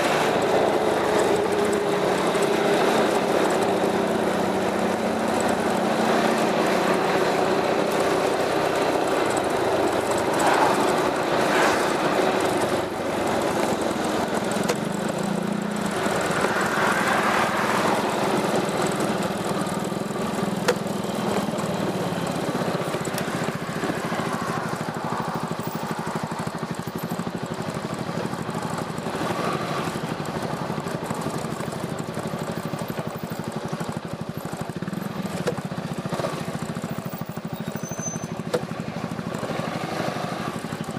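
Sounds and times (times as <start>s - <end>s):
scooter engine exhaust note: 0.2s - 40.9s.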